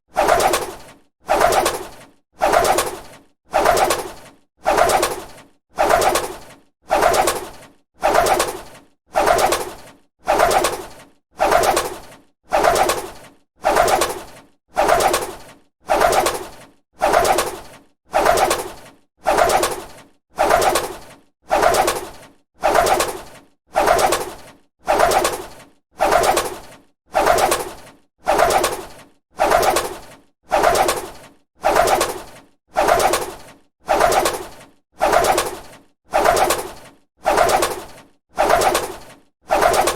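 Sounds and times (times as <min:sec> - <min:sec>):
bird wings flapping: 0:00.1 - 0:39.9.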